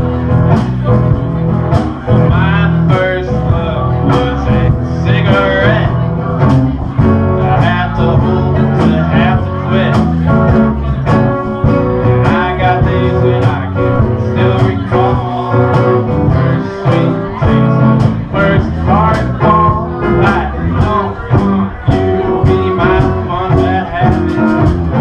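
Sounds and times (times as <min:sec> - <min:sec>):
person singing country song: 0:00.0 - 0:25.0
strummed guitar: 0:00.0 - 0:25.0.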